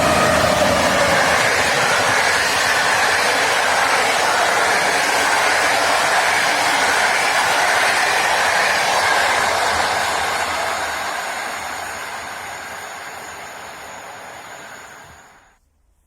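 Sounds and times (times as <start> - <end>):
passenger train passing: 0.0 - 15.5.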